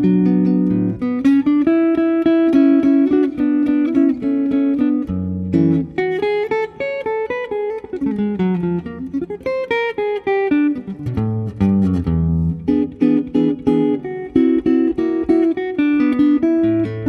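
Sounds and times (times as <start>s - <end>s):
guitar plucking notes: 0.0s - 17.0s.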